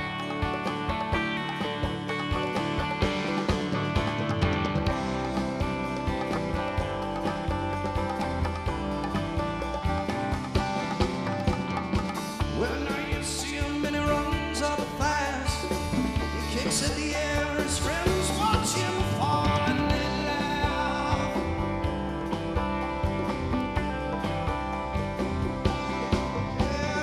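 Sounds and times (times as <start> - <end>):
drum kit: 0.0 - 27.0
electric guitars: 0.0 - 27.0.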